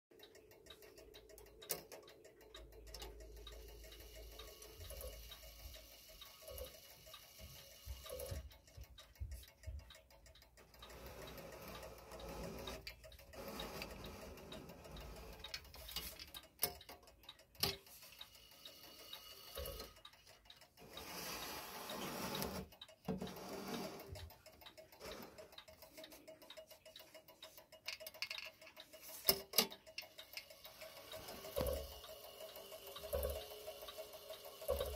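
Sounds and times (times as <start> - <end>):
clock ticking: 0.1 - 34.9.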